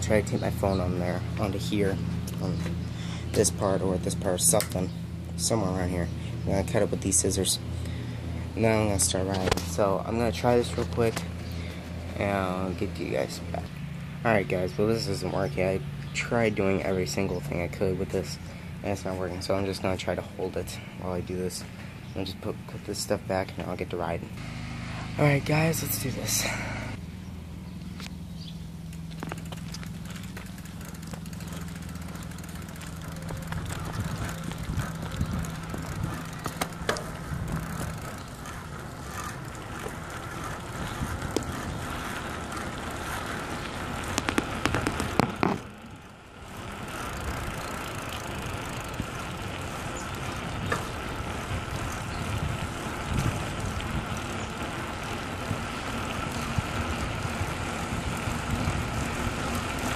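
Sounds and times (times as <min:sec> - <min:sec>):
bicycle tyres rumbling on asphalt: 0:00.0 - 0:59.9.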